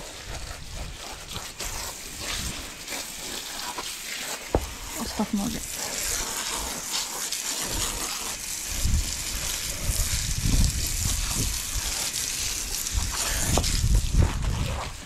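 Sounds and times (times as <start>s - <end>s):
hose nozzle spraying water: 0.0s - 15.0s
water splashing on wet paving: 0.0s - 15.0s.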